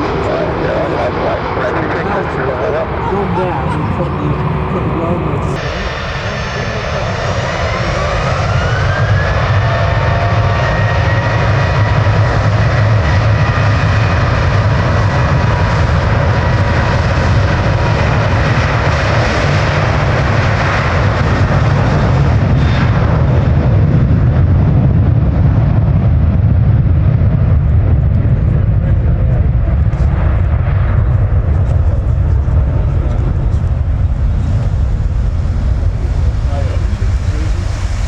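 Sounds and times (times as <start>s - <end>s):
jet airliner passing: 0.0s - 38.0s.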